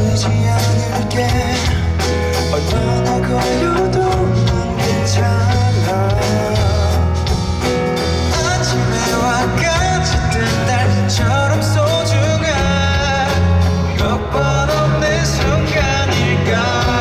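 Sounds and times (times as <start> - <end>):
band with bass and guitar: 0.0 - 17.0
man singing: 0.0 - 17.0.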